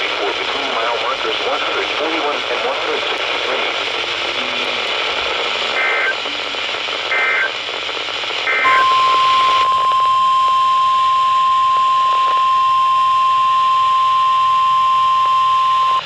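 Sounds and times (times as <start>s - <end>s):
faint radio static: 0.0s - 16.0s.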